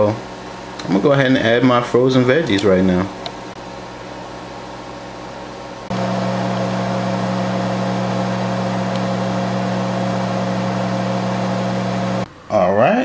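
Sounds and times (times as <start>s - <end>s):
oven fan and motor hum: 0.0s - 12.6s.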